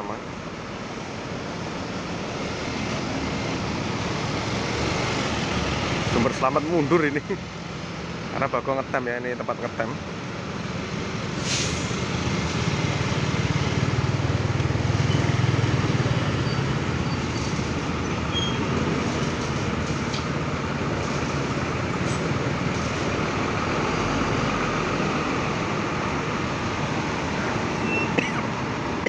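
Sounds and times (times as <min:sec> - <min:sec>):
diesel bus engines rumbling: 0:00.0 - 0:29.0
traffic drone: 0:00.0 - 0:29.0.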